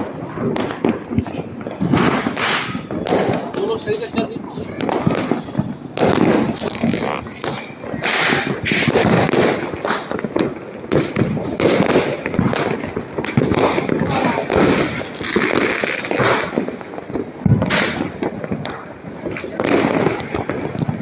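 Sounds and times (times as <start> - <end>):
firecrackers bangs and crackles: 0.0 - 21.0.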